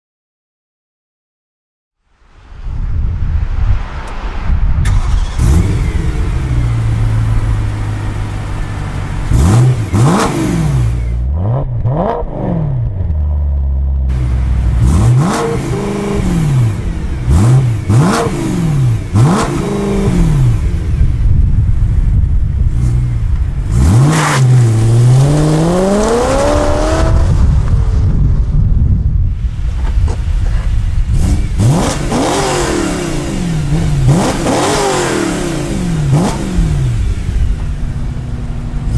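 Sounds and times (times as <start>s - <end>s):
car engine idling and revving: 3.9s - 38.9s.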